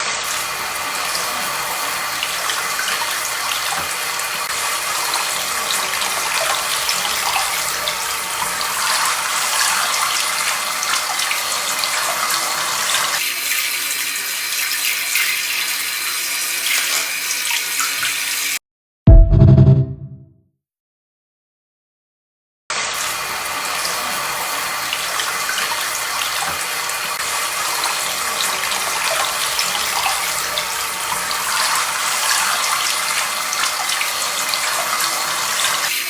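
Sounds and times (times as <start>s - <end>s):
tap water running: 0.2s - 18.6s, 22.9s - 36.0s.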